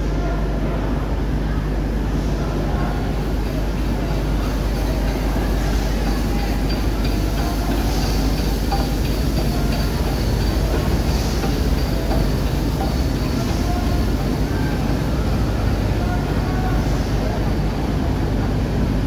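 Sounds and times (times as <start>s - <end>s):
steam locomotive rumbling past: 2.1s - 19.0s.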